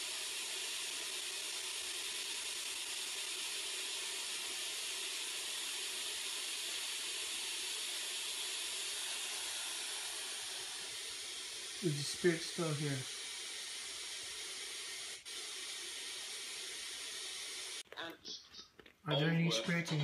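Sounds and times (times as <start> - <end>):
static hiss from speaker: 0.0 - 20.0.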